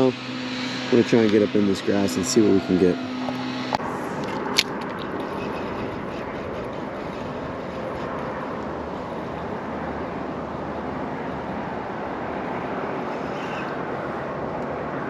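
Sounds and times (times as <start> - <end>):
outdoor rushing noise: 0.0 - 15.0.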